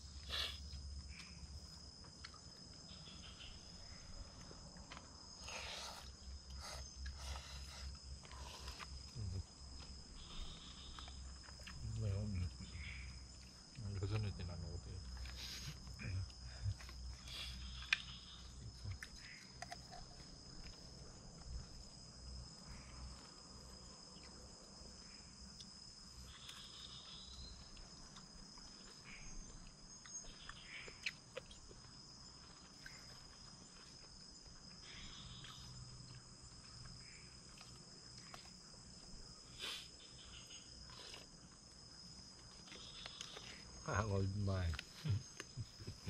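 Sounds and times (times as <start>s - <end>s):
insects chorus: 0.0s - 46.0s.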